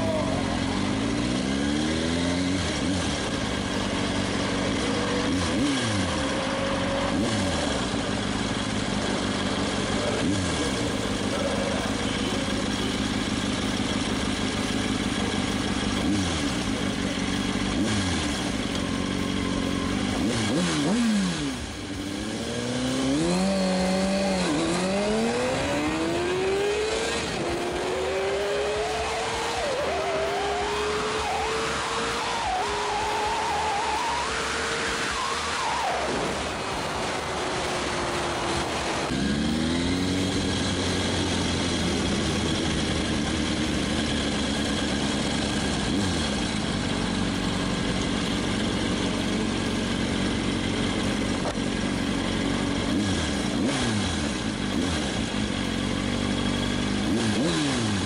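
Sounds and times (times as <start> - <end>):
motorcycle engine revving and accelerating: 0.0 - 58.0.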